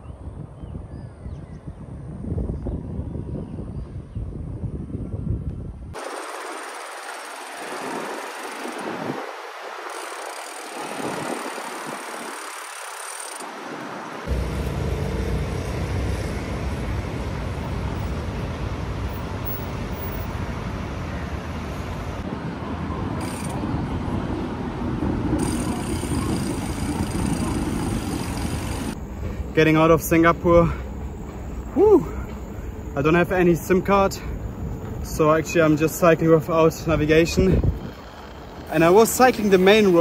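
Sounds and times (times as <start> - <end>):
city traffic hum: 0.0 - 40.0.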